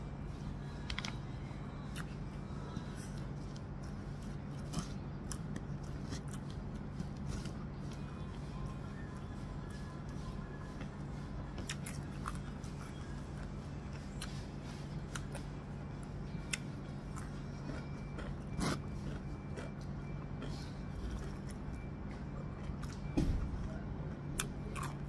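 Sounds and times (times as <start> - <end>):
steady low hum: 0.0 - 25.0
chewing with mouth smacks: 1.8 - 25.0.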